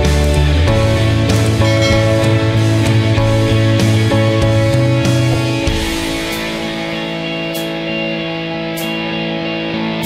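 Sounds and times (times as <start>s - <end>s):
instrumental music with sustained tones: 0.0s - 10.0s.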